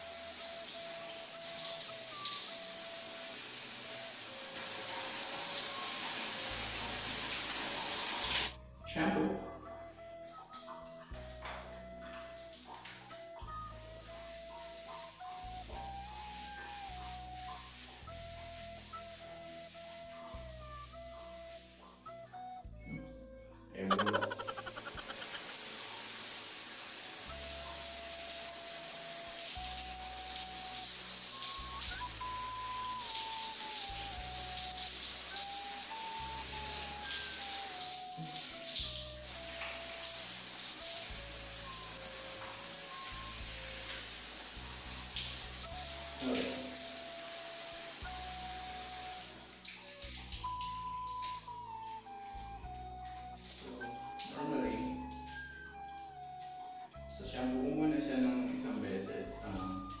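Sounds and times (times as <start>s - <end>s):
shower water spraying: 0.0s - 8.6s, 11.7s - 22.2s, 23.9s - 60.0s
faint music of held notes: 0.0s - 60.0s.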